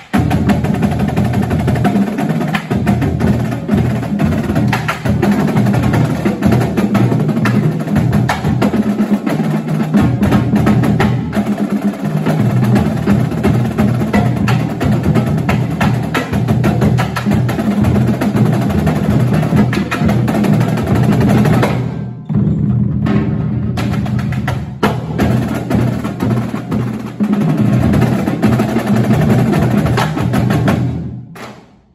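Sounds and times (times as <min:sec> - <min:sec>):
marching drumline cadence: 0:00.0 - 0:31.9.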